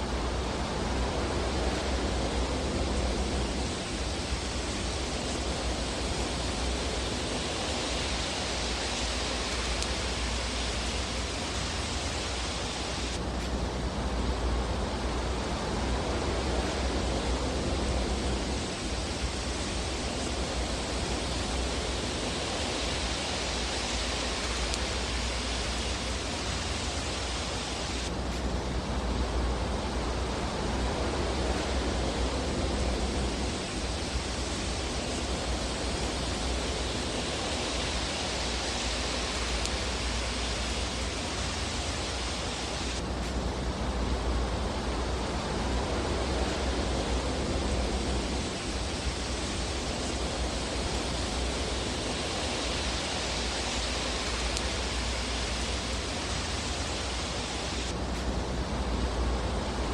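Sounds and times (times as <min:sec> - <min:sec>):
fire roaring: 0:00.0 - 0:59.9.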